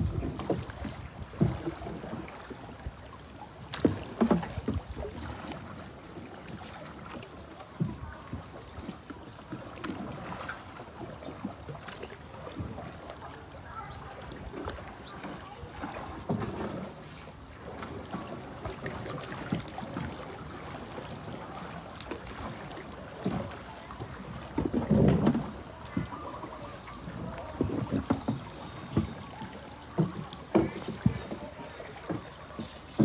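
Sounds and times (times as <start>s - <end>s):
paddle splashing water: 0.0s - 33.0s
water swirling against hull: 0.0s - 33.0s.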